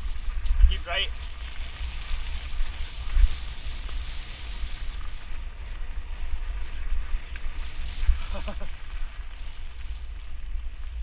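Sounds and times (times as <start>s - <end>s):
tyres rolling on dirt trail: 0.0s - 11.0s
wind buffeting microphone: 0.0s - 11.0s.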